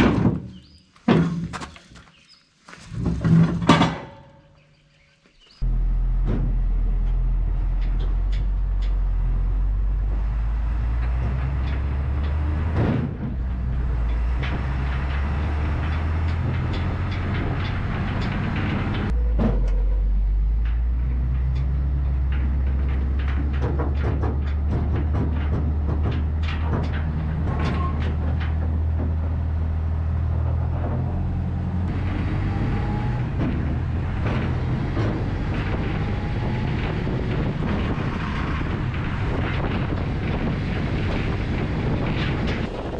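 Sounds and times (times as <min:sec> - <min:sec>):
trailer rattling and clanking: 0:00.0 - 0:42.9
truck engine and road drone: 0:00.0 - 0:42.9.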